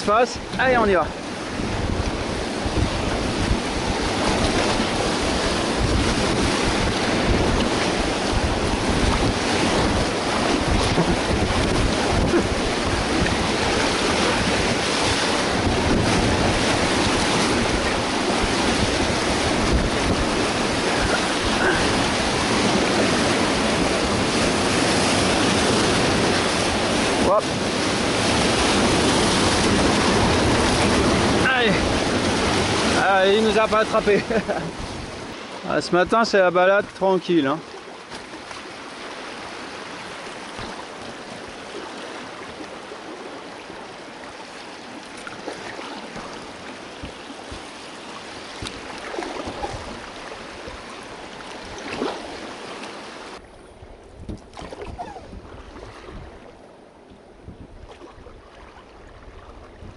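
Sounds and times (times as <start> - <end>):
wind on microphone: 0.0 - 35.6, 38.7 - 59.9
whitewater rushing: 0.0 - 53.4
waves breaking against raft: 0.0 - 59.9.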